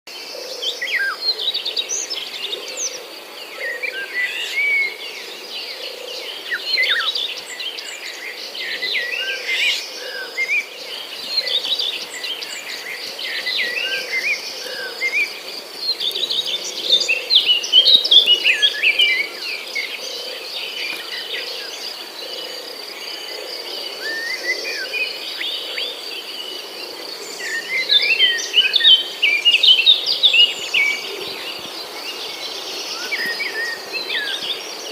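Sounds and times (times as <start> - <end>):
small birds chirping: 0.8 - 34.9.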